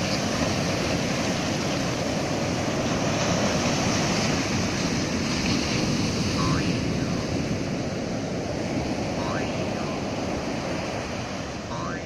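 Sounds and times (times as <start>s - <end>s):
ocean surf washing: 0.0s - 12.0s.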